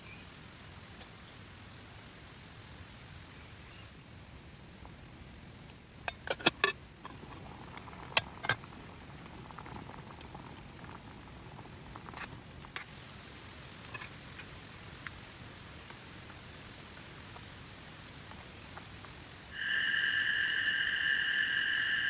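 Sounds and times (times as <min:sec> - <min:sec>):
steady soft hiss: 0:00.0 - 0:06.0, 0:06.9 - 0:22.0.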